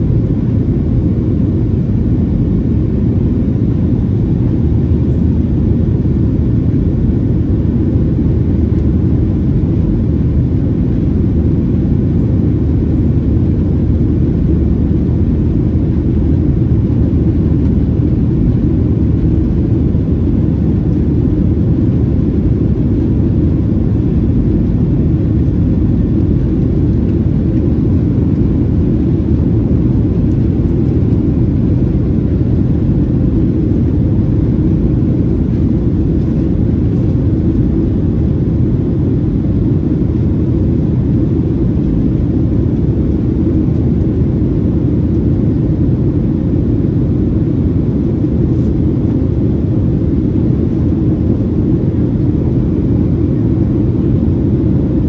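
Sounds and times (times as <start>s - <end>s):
faint steady hum: 0.0s - 55.0s
jet engine rumble in cabin: 0.0s - 55.0s.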